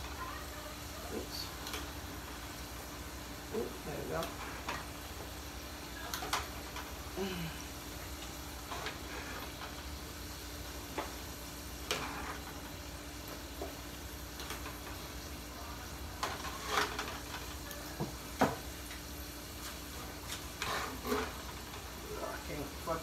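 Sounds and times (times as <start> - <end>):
oil sizzling in deep fryer: 0.0 - 23.0.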